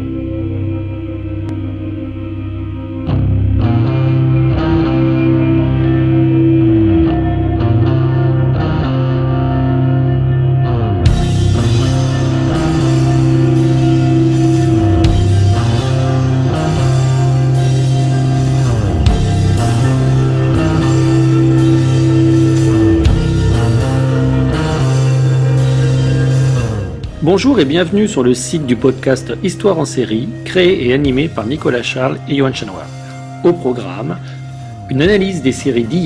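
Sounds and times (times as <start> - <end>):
instrumental rock music with guitar: 0.0 - 36.0.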